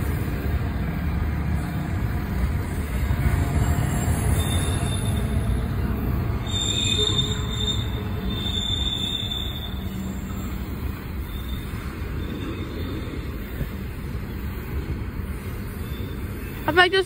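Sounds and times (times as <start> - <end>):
freight train rumbling past: 0.0 - 17.0
train wheel squeal: 2.7 - 16.8.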